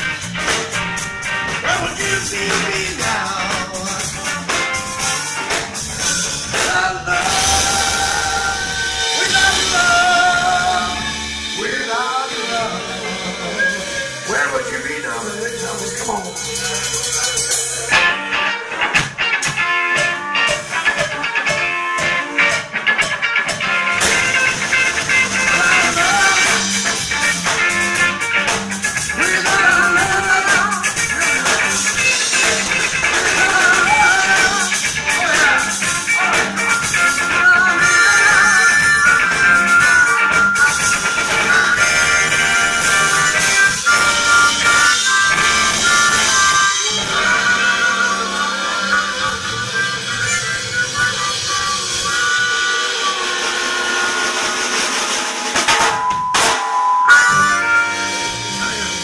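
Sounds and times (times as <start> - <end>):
harmonica: 0.0 - 55.8, 57.1 - 59.0
rock band playing: 0.0 - 59.0.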